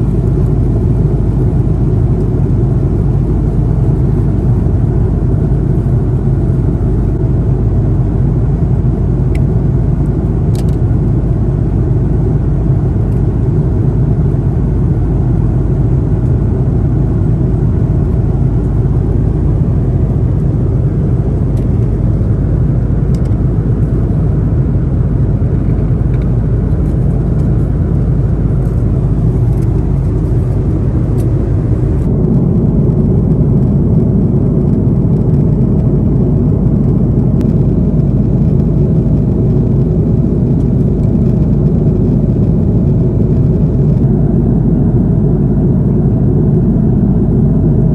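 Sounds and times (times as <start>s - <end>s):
aircraft cabin engine rumble: 0.0s - 47.9s
low hum: 0.0s - 47.9s.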